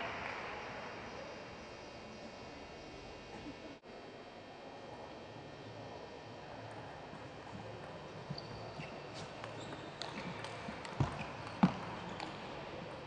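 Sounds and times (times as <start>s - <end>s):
low hall hum: 0.0s - 13.0s.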